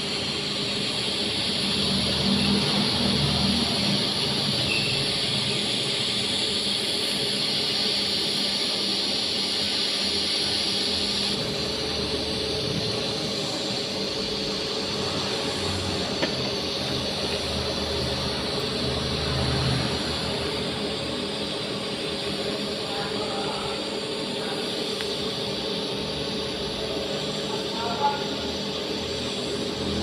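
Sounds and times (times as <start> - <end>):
welding arc hissing buzz: 0.0 - 30.0.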